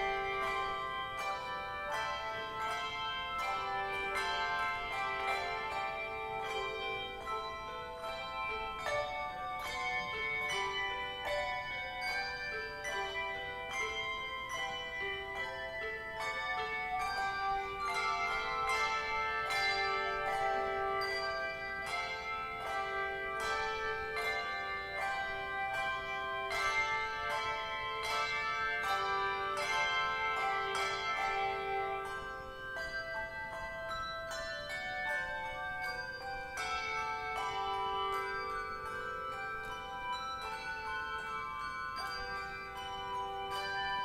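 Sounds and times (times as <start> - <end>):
handbell choir ringing: 0.0 - 44.0.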